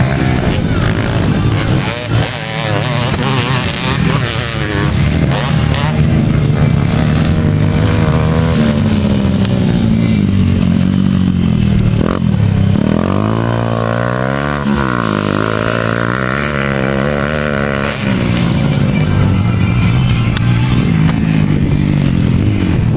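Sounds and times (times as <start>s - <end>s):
motocross bike engines revving: 0.0s - 22.9s.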